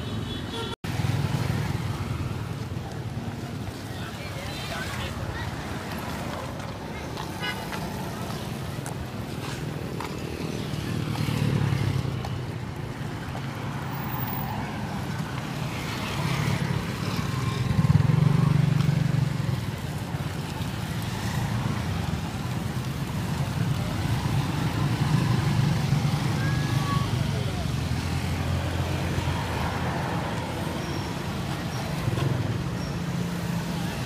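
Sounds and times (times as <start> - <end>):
passing vehicle engines rumbling: 0.0 - 34.0.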